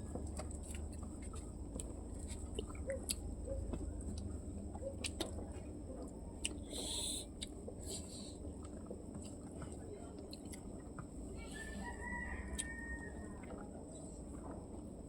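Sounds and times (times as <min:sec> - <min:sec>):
mouth clicks and smacks chewing: 0:00.0 - 0:14.6
steady low hum: 0:00.0 - 0:15.0.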